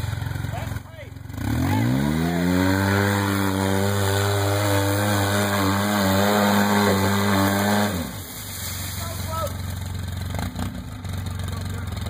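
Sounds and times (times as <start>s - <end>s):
engine at high revs: 0.0s - 12.0s.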